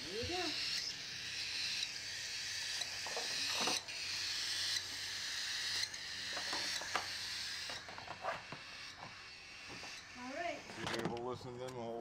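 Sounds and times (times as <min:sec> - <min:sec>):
chicks raspy begging calls: 0:00.0 - 0:10.8.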